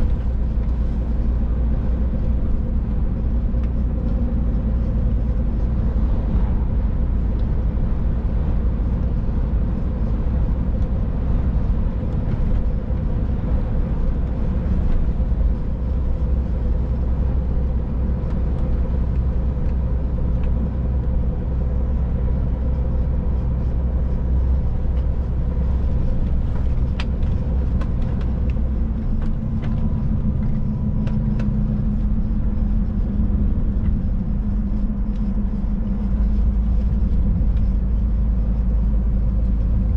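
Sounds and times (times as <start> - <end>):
faint engine hum: 0.0 - 39.9
truck engine and tyres rumbling: 0.0 - 39.9.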